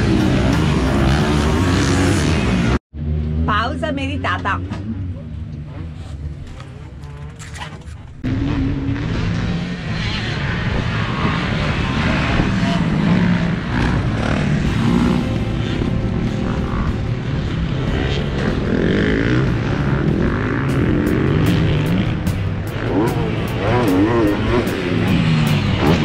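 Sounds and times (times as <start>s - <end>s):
motocross engines revving: 0.0s - 26.0s.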